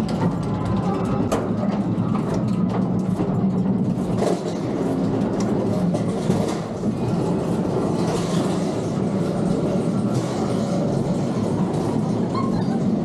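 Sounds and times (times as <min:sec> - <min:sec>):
roller coaster chain lift clattering: 0:00.0 - 0:13.0.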